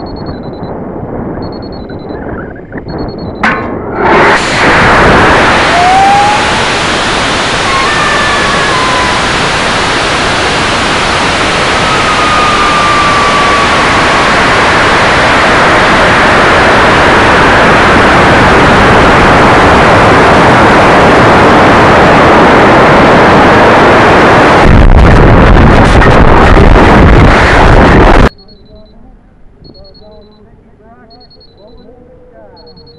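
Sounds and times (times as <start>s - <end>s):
rushing airflow over camera: 0.7s - 28.3s.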